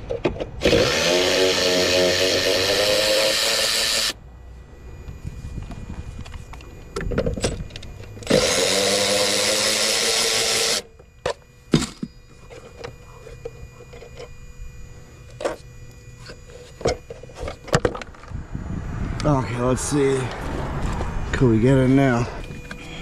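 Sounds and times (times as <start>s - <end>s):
power driver spinning: 0.0s - 18.4s, 20.2s - 23.0s.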